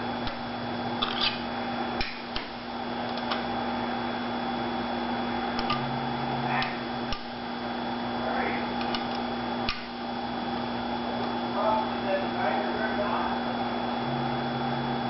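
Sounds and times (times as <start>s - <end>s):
sharpening machine humming: 0.0s - 15.0s.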